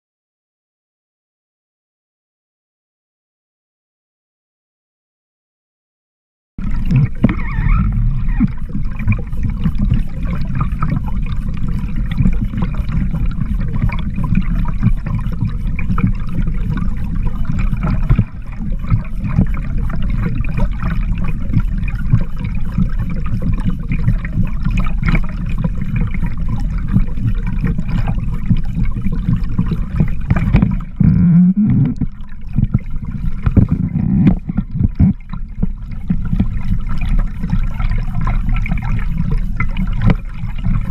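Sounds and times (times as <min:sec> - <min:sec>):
low gurgle: 0:06.6 - 0:40.9
underwater rush of water: 0:06.6 - 0:40.9.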